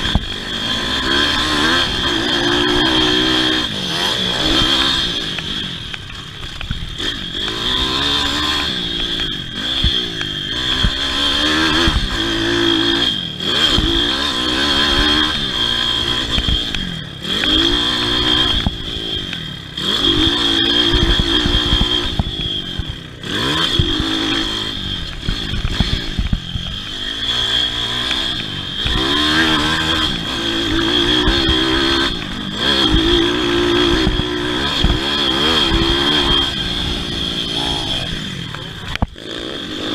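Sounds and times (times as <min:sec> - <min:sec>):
motorbike engine revving: 0:00.0 - 0:39.9
steady high whine: 0:00.0 - 0:39.9.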